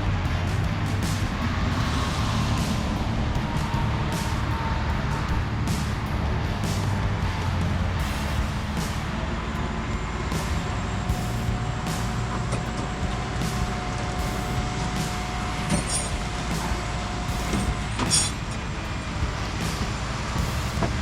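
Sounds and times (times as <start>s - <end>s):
tow truck engine running: 0.0s - 21.0s.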